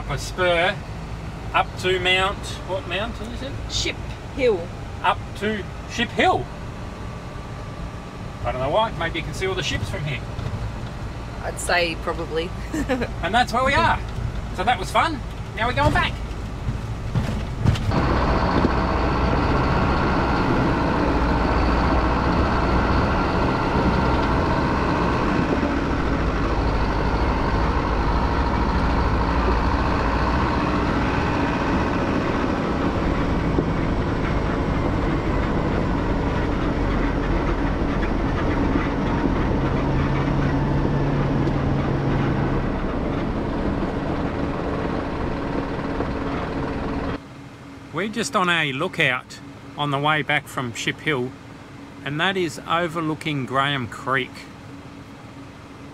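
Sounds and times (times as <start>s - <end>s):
truck engine driving: 0.0s - 55.9s.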